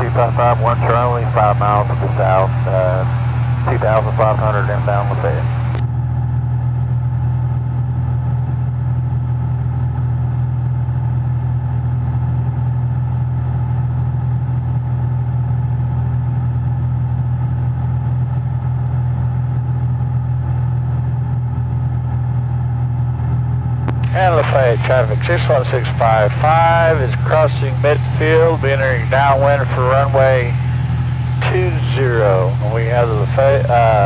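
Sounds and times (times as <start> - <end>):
light aircraft engine and propeller drone: 0.0 - 34.0.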